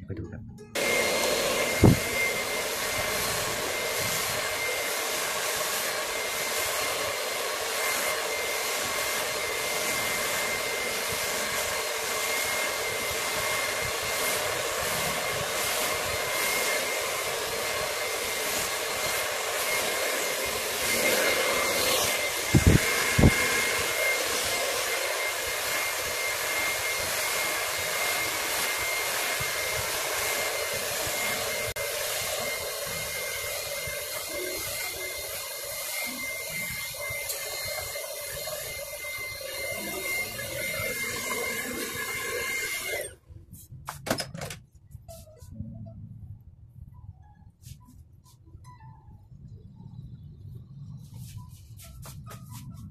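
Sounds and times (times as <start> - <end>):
hair dryer blowing: 0.0 - 43.4.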